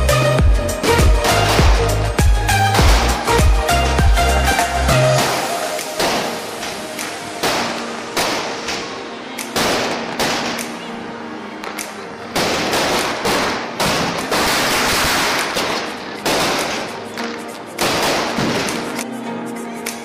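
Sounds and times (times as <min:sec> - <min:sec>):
music playing: 0:00.0 - 0:20.0
firecrackers banging: 0:00.7 - 0:10.9, 0:11.6 - 0:19.1.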